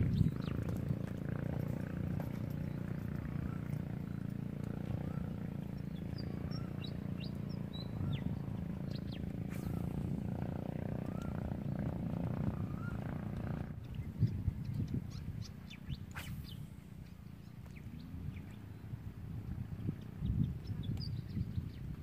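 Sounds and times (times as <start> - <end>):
constant low rumble: 0.0 - 22.0
small birds chirping: 0.0 - 22.0.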